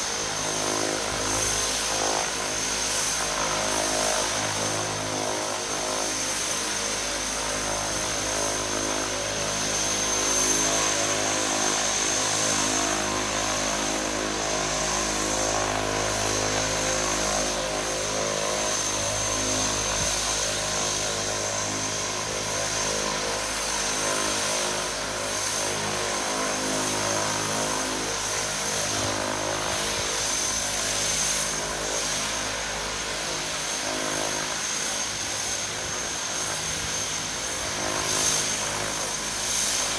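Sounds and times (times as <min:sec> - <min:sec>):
propeller drone: 0:00.0 - 0:39.9.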